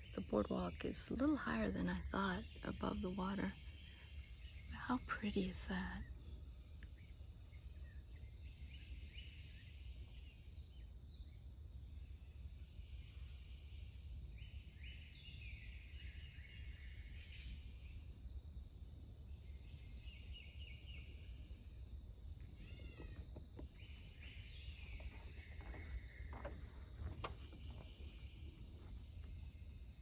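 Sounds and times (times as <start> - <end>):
birds singing: 0.0 - 30.0.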